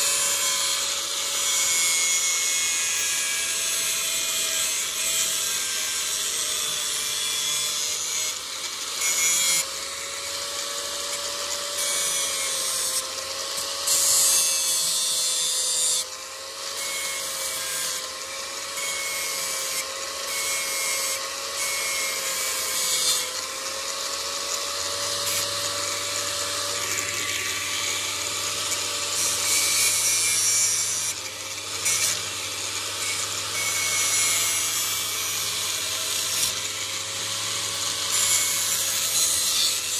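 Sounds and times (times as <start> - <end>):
electric grinder motor hum: 0.0 - 39.9.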